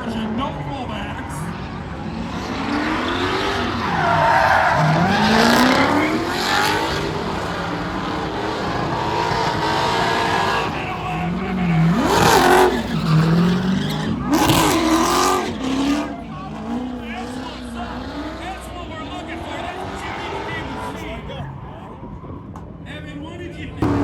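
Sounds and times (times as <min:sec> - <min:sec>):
car engine revving hard: 0:00.0 - 0:21.8
tyres spinning: 0:00.0 - 0:22.0.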